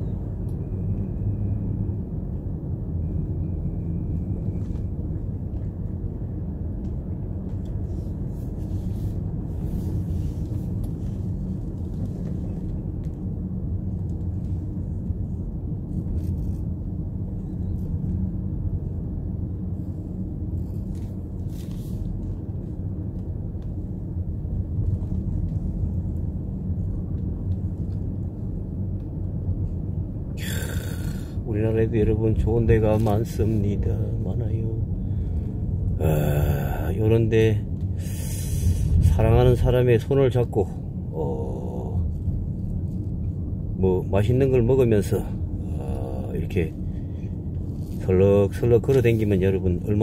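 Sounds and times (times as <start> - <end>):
car driving low rumble: 0.0 - 50.0.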